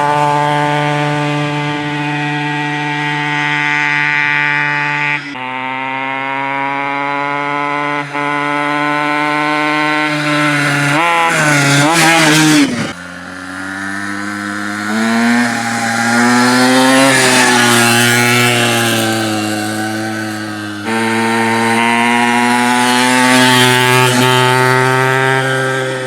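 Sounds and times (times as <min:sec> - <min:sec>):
small engine revving: 0:00.0 - 0:26.0.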